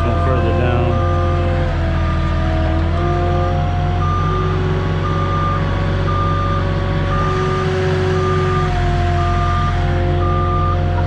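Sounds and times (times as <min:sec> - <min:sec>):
backup alarm beeping: 0:00.0 - 0:11.0
forklift engine drone: 0:00.0 - 0:11.0.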